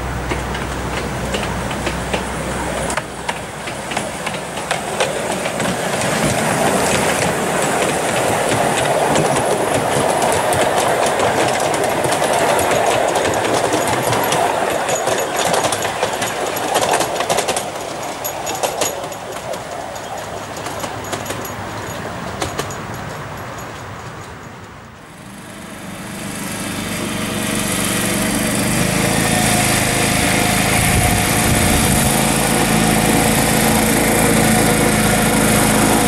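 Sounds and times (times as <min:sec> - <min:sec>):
miniature train rumbling on rails: 0:00.0 - 0:36.0
wheels clicking over rail joints: 0:00.0 - 0:36.0.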